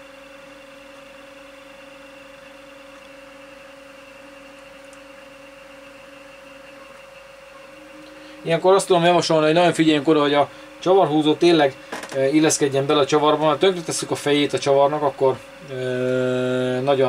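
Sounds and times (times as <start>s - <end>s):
electrical hum: 0.0s - 17.0s
faint high whine: 0.0s - 17.0s.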